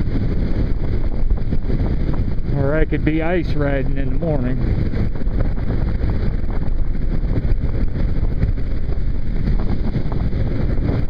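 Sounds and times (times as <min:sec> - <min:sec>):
motorcycle engine: 0:00.0 - 0:11.0
wind buffeting microphone: 0:00.0 - 0:11.0.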